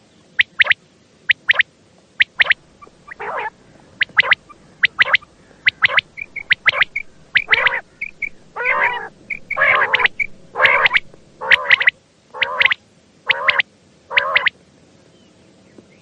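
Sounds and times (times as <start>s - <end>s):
high bird peeps: 0.4s - 1.6s, 2.2s - 14.5s
quail calling: 0.4s - 1.6s, 2.2s - 14.5s.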